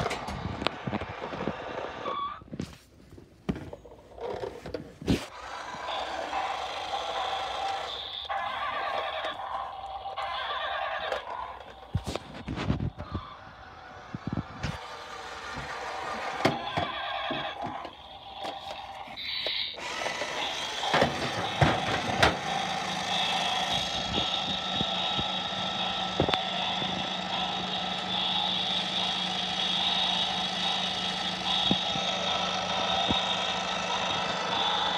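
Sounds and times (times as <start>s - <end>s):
toy car electronic engine sound: 0.0s - 2.4s, 5.3s - 34.9s.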